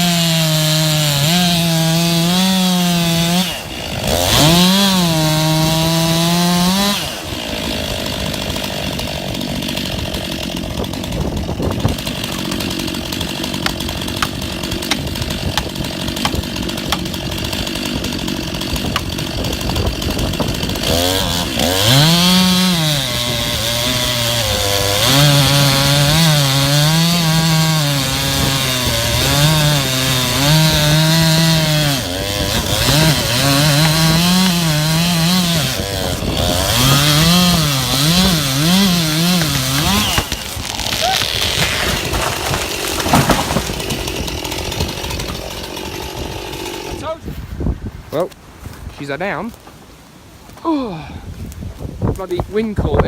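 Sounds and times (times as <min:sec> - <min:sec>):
chainsaw cutting wood: 0:00.0 - 0:47.2.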